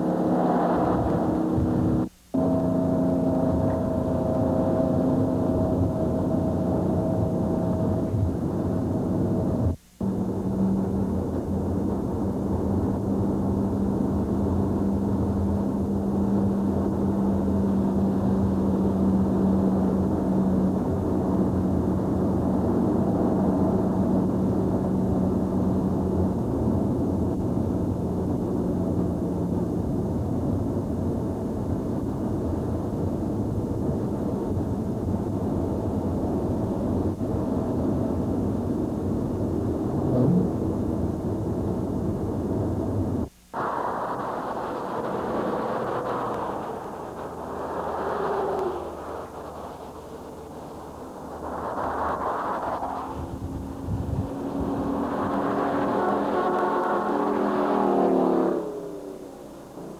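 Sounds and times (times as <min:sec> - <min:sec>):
low hum: 0:00.0 - 0:59.9
road noise on wet road: 0:00.0 - 0:59.9.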